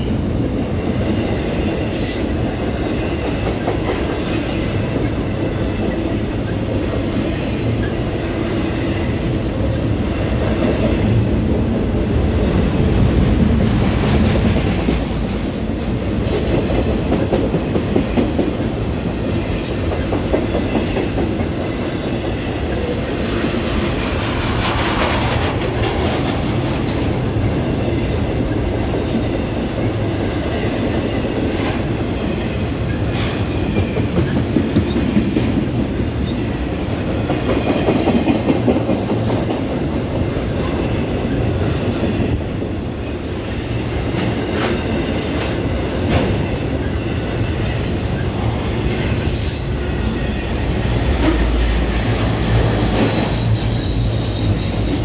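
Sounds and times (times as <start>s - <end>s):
train rolling past: 0.0s - 55.0s.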